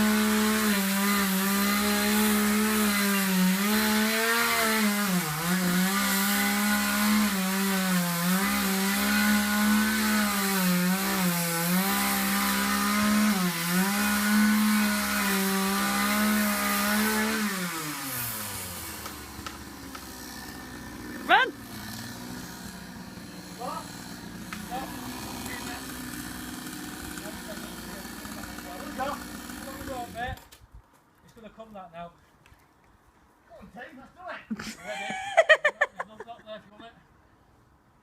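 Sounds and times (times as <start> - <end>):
chainsaw running at high revs: 0.0 - 30.4.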